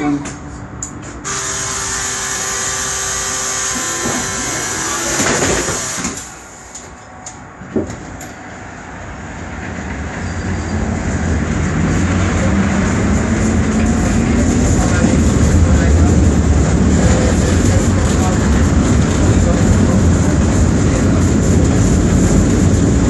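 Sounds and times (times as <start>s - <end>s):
tram interior hum: 0.0s - 23.0s
tram motor and wheel rumble: 0.0s - 23.0s.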